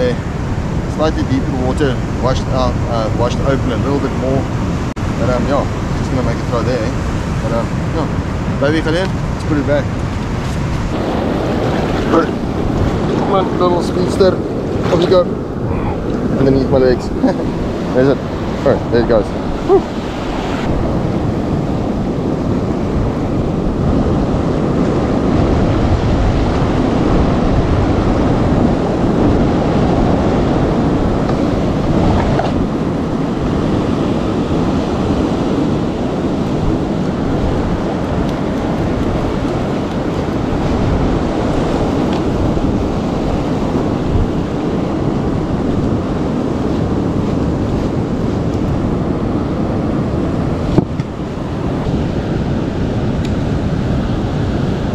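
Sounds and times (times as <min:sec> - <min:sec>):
surf breaking over rocks: 0:00.0 - 0:54.9
wind rumbling on microphone: 0:00.0 - 0:54.9.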